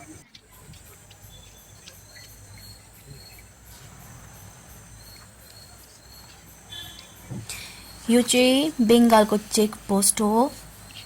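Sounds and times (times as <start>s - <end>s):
faint insect chirping: 0.0s - 11.0s.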